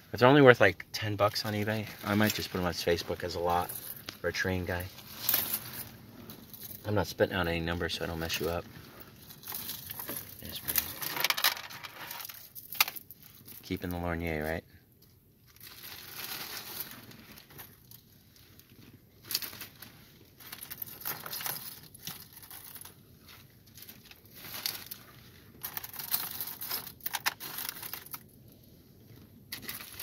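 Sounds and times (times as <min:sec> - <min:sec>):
plastic bag rustling: 0:01.2 - 0:13.6, 0:15.4 - 0:28.4, 0:29.0 - 0:30.0.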